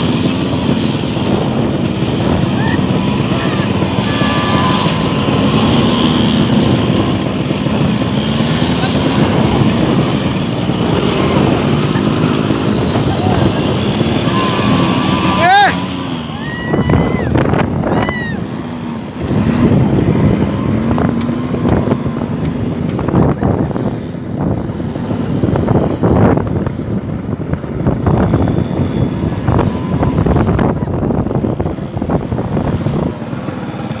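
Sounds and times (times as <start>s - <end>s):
quad bike engines revving: 0.0s - 34.0s.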